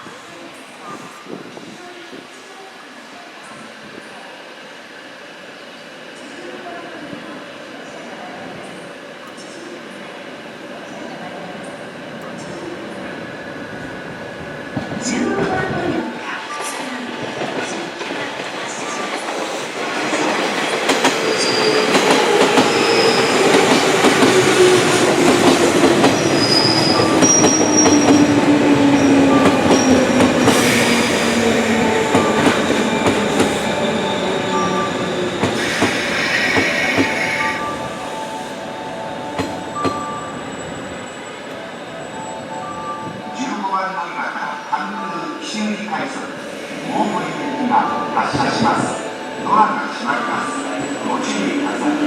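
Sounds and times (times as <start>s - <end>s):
rail noise: 0.0s - 52.0s.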